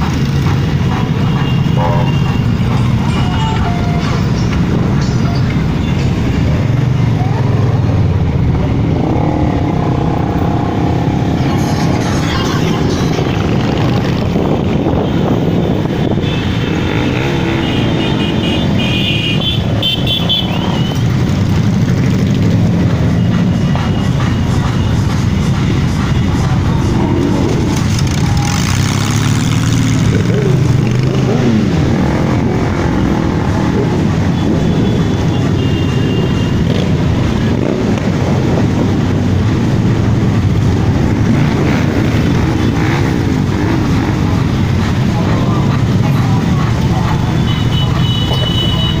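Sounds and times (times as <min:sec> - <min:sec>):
motorcycle engines rumbling: 0:00.0 - 0:49.0.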